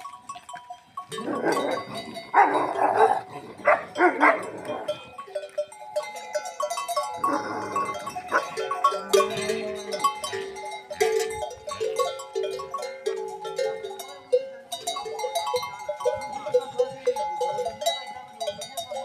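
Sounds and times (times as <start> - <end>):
bell-like ringing tones: 0.0 - 2.7, 4.0 - 19.0.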